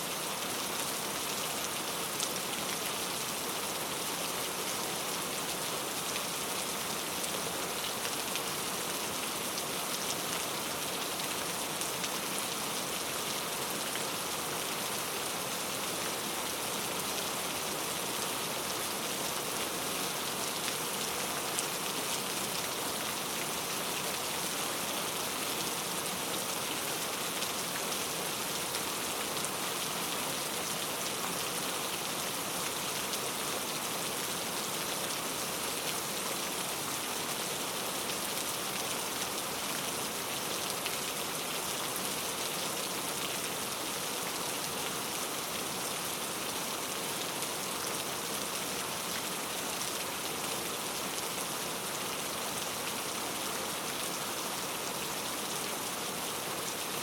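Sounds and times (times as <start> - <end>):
rain on foliage: 0.0 - 57.0.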